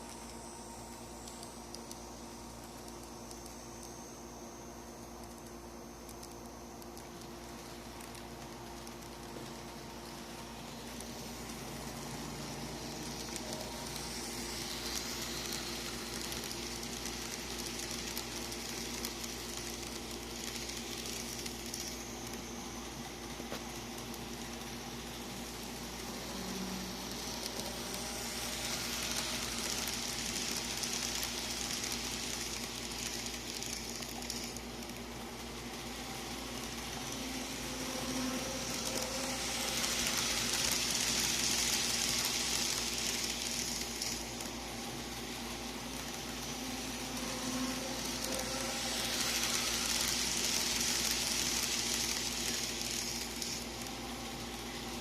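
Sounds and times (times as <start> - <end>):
faint steady hum: 0.0 - 55.0
model train rolling on track: 0.0 - 55.0.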